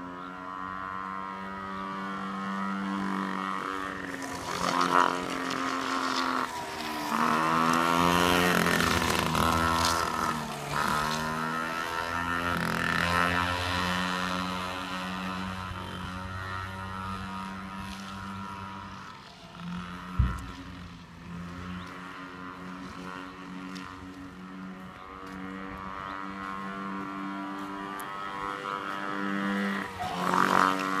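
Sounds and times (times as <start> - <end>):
small two-stroke engine revving: 0.0 - 31.0.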